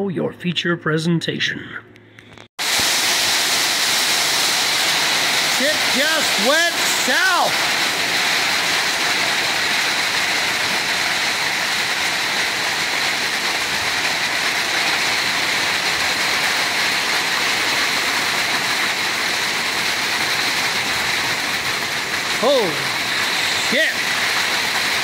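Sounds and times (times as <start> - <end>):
torrential rain pouring: 2.6 - 25.0.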